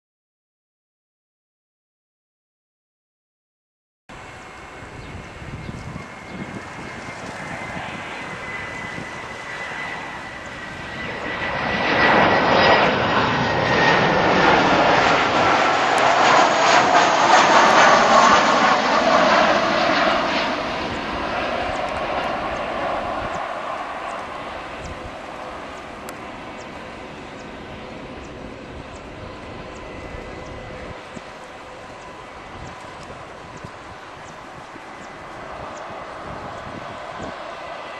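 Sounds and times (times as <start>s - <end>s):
jet airliner passing by: 4.1s - 37.9s
jet engine whine falling in pitch: 4.1s - 37.9s.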